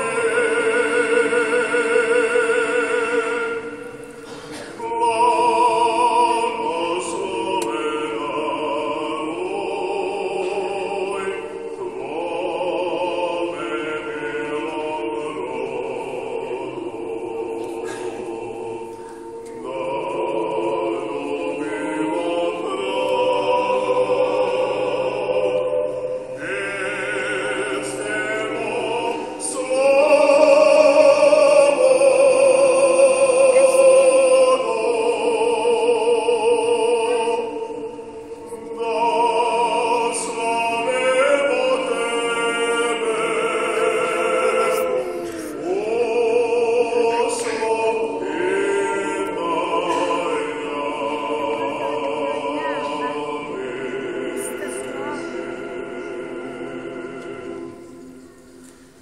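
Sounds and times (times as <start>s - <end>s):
church choir singing unaccompanied: 0.0s - 59.0s.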